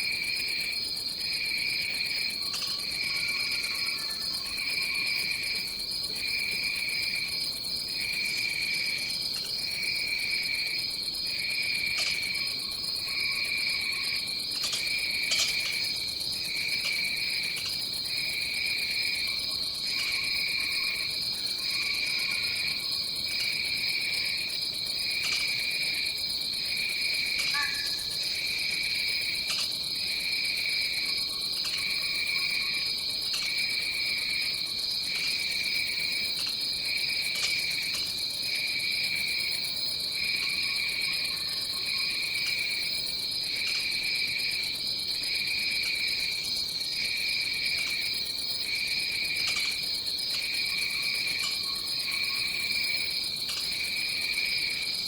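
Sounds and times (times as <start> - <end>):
low pulsing insect trill: 0.0 - 55.0.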